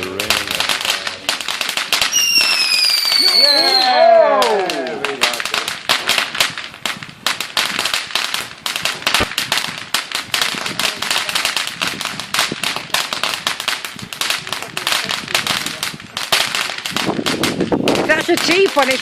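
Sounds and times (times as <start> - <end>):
firecrackers banging and crackling: 0.0 - 19.0.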